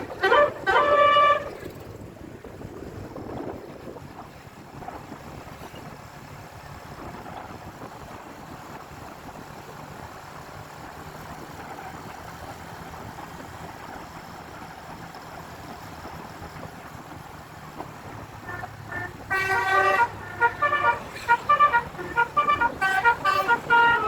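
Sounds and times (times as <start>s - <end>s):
vehicle engine running: 0.0s - 24.0s
wind noise on microphone: 0.0s - 24.0s.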